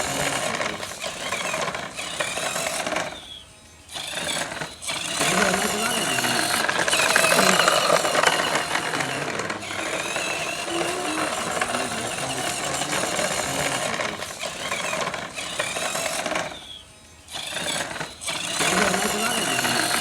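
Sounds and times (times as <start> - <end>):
mini tractor rattling clatter: 0.0 - 20.0.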